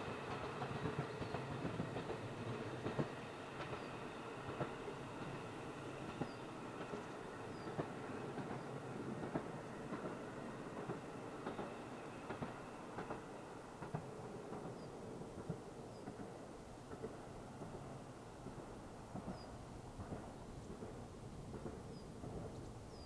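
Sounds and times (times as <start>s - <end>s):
diesel train rumbling past: 0.0s - 23.0s
wheels clacking over rail joints: 0.0s - 23.0s.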